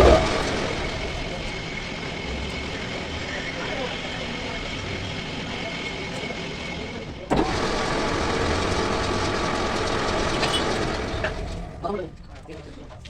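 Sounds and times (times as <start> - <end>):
machine running: 0.0 - 13.0.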